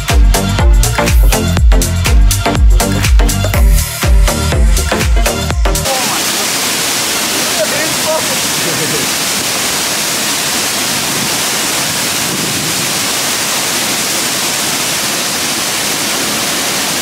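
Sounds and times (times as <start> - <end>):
waterfall rushing: 2.8 - 17.0.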